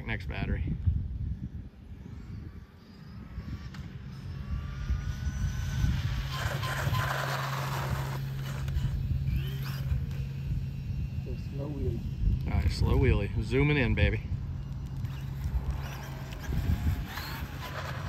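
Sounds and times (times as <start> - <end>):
steady low hum: 0.0 - 18.0
electric motor whining: 1.1 - 18.0.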